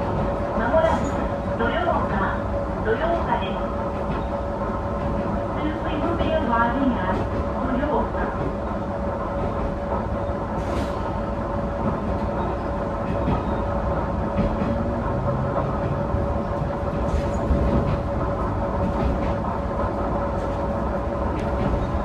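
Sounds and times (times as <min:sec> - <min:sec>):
railcar engine rumble: 0:00.0 - 0:22.0.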